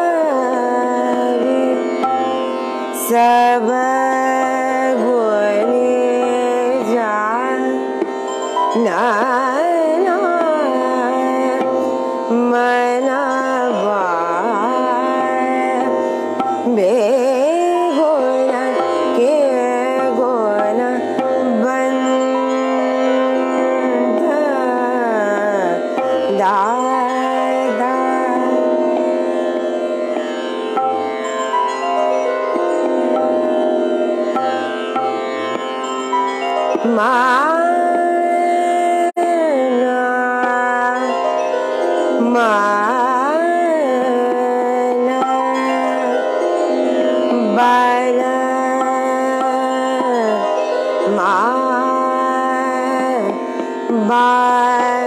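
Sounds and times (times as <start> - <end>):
woman singing: 0.0 - 31.2, 36.7 - 55.0.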